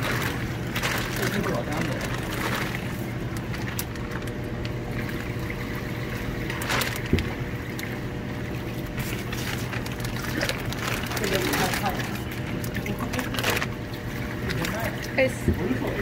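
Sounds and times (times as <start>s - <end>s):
steady low hum: 0.0s - 16.0s
water sloshing and dripping: 0.0s - 16.0s.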